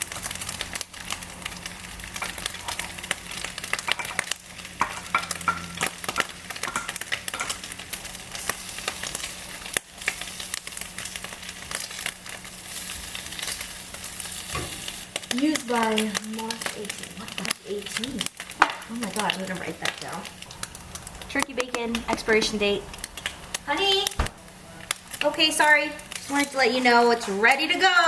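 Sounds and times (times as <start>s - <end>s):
bacon sizzling in a frying pan: 0.0s - 28.0s.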